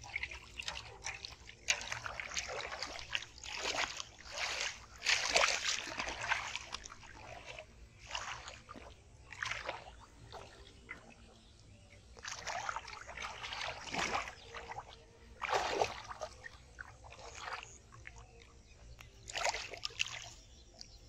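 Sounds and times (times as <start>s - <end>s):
muddy water splashing: 0.0s - 21.0s.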